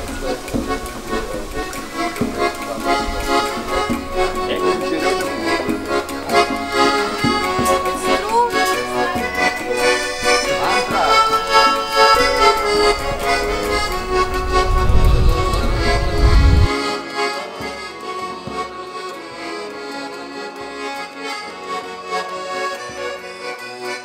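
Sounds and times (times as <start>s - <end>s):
accordion chords: 0.0s - 24.0s.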